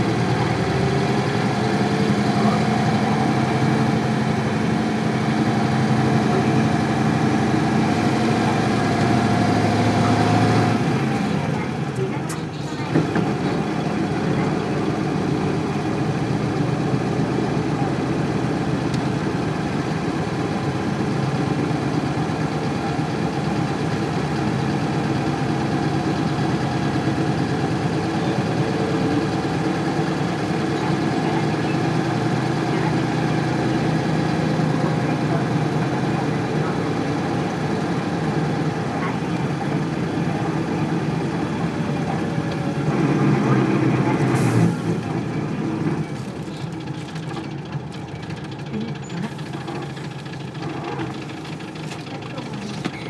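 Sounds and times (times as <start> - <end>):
diesel bus engine running: 0.0 - 53.0.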